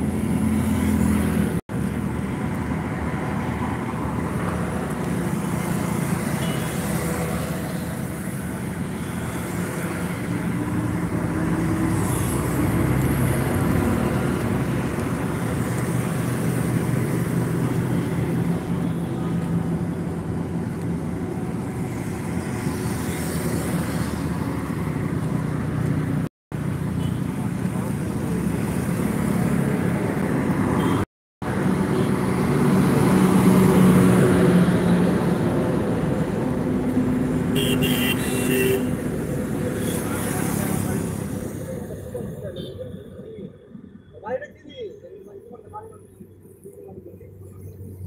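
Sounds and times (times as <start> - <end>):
road noise: 0.0 - 48.0
vehicles driving past: 0.0 - 48.0.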